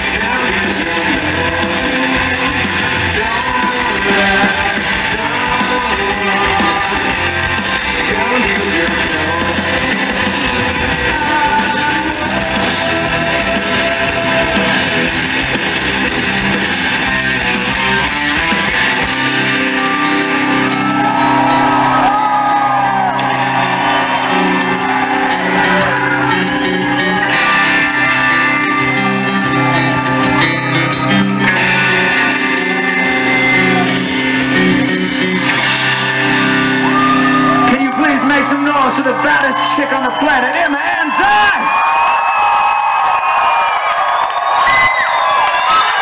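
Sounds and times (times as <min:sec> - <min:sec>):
bass guitar: 0:00.0 - 0:40.3
distorted electric guitar: 0:00.0 - 0:42.2
drums: 0:00.0 - 0:46.0.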